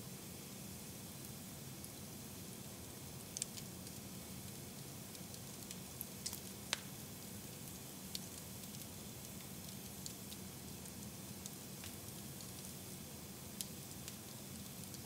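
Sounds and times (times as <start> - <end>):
fireplace fire crackling: 0.1 - 15.0.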